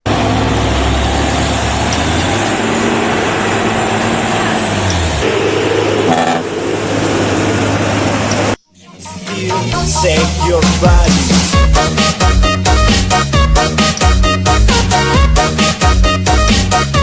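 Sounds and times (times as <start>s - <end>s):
road noise: 0.0s - 17.0s
truck diesel engine running: 0.0s - 17.0s.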